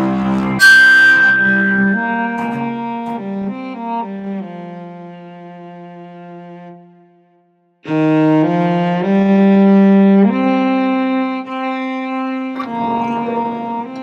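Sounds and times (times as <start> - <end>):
orchestral bowed strings: 0.0 - 7.2, 7.8 - 14.0.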